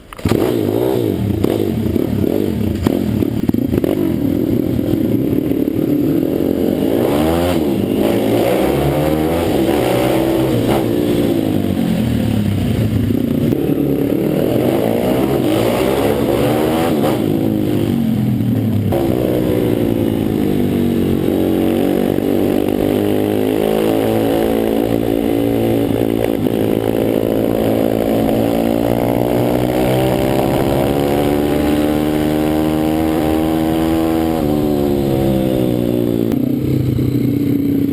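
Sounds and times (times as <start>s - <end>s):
motorbike engine revving: 0.0s - 37.9s.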